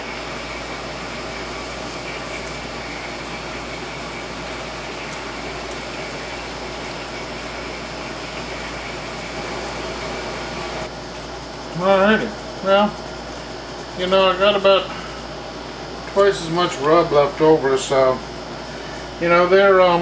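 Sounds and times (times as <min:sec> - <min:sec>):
fan or air conditioner running: 0:00.0 - 0:20.0.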